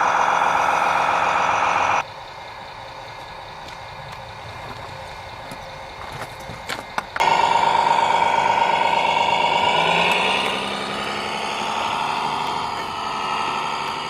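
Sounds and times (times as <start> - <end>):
model truck engine whining: 0.0 - 14.0.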